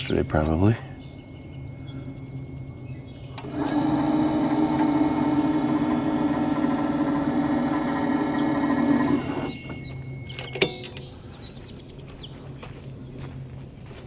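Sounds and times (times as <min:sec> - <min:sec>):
motor whine: 0:00.0 - 0:12.0.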